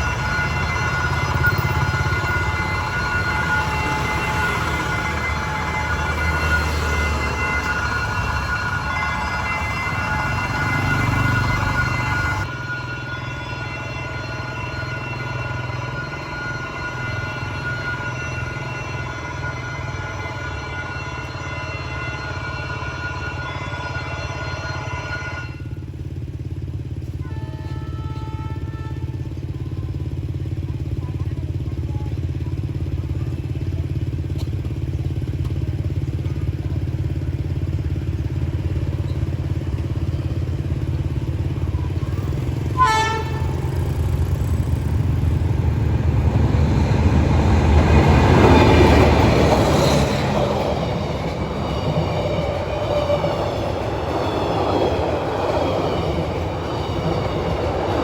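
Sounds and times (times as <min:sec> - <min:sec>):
train horn toot: 0:00.0 - 0:29.6, 0:39.9 - 0:58.0
diesel locomotive running: 0:00.0 - 0:58.0.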